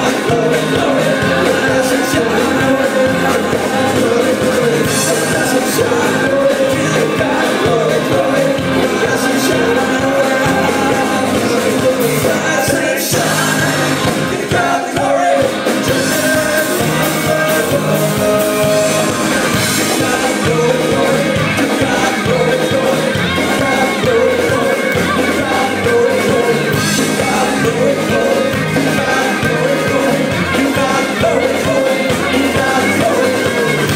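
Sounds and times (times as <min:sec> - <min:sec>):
live country band playing: 0:00.0 - 0:33.9
person singing lead vocal: 0:00.0 - 0:33.9.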